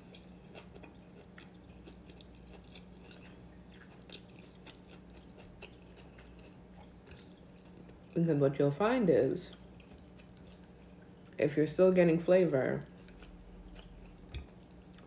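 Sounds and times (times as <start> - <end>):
chewing food: 0.0 - 8.6, 9.4 - 11.4, 12.8 - 15.0
steady low hum: 0.0 - 15.0.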